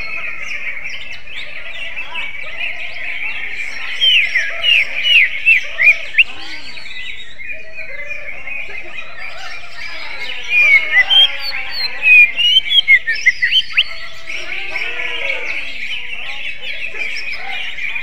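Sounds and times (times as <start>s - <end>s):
bird whistled song: 0.0s - 14.5s.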